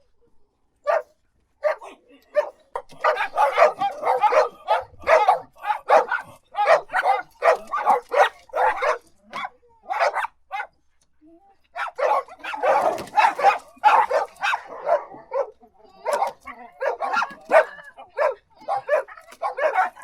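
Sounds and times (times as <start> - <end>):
dog barking: 0.9 - 10.7, 11.8 - 20.0.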